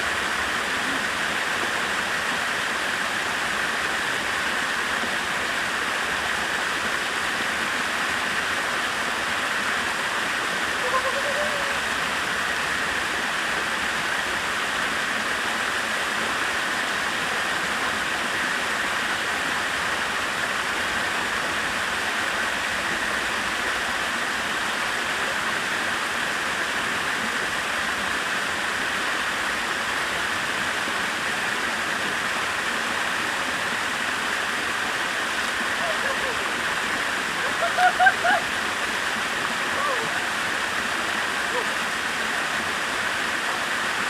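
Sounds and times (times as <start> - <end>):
stream water rushing over waterfall: 0.0 - 44.0.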